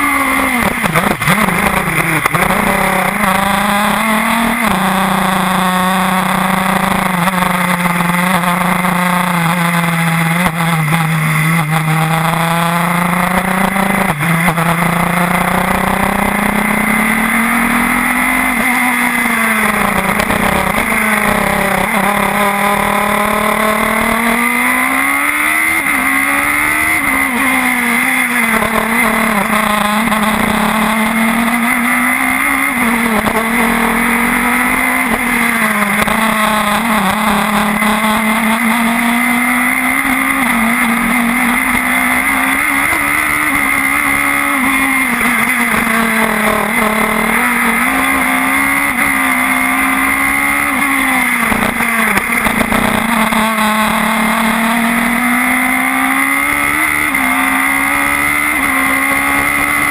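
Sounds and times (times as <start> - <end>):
racing car engine: 0.0 - 59.9.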